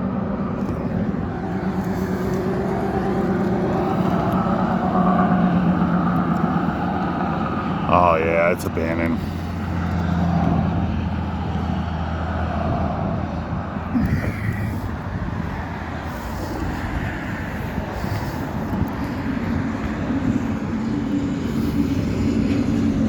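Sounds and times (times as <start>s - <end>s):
road and traffic noise: 0.0s - 23.0s
vehicle engine humming: 0.0s - 23.0s.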